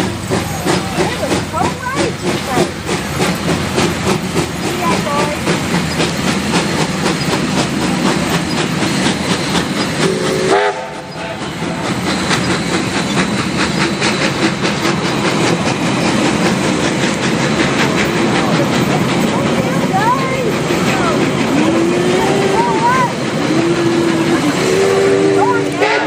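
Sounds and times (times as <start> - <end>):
steam locomotive running: 0.0 - 26.0.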